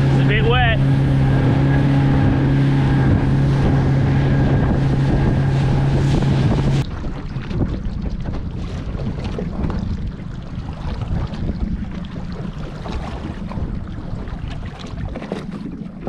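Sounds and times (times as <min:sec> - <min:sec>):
outboard motor running: 0:00.0 - 0:16.0
water noise: 0:00.0 - 0:16.0
wind noise on microphone: 0:00.0 - 0:16.0.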